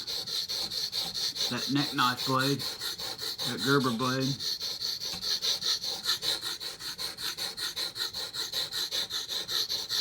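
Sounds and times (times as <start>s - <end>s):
knife scraping on whetstone: 0.0s - 10.0s.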